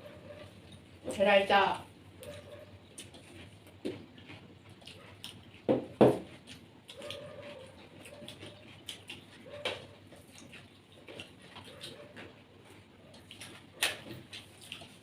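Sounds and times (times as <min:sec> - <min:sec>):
wet chewing clicks and smacks: 0:02.2 - 0:15.0.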